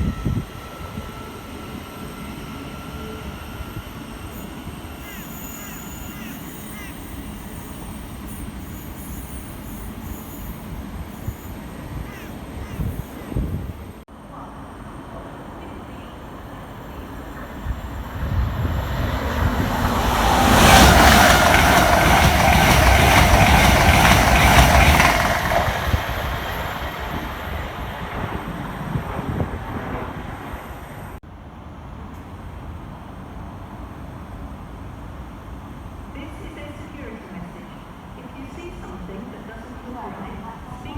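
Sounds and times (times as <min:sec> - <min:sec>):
train passing: 0:00.0 - 0:40.9.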